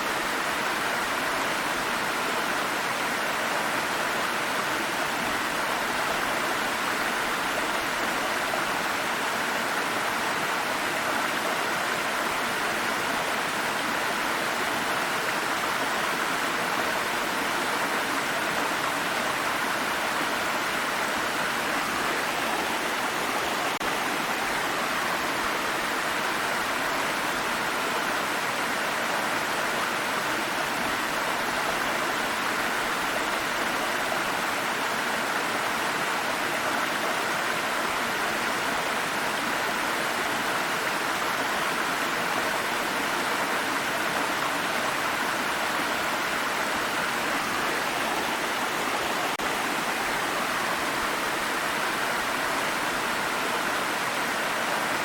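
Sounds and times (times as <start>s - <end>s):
water stream flowing over rocks: 0.0s - 55.0s.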